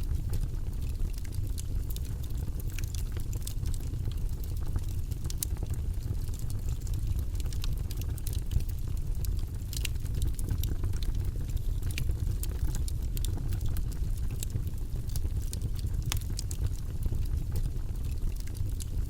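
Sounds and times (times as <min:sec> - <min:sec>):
campfire rumbling: 0:00.0 - 0:19.0
wood crackling and popping: 0:00.0 - 0:19.0.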